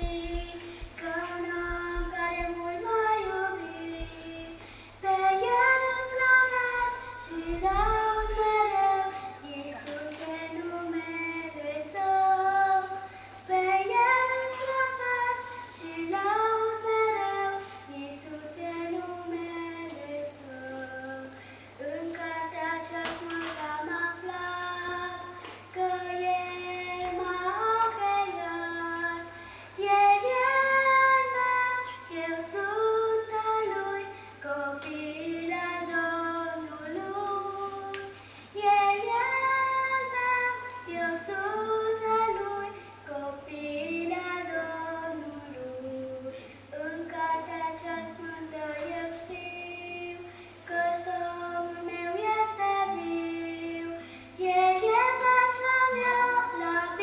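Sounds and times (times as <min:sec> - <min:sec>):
girl singing a hymn: 0:00.0 - 0:57.0.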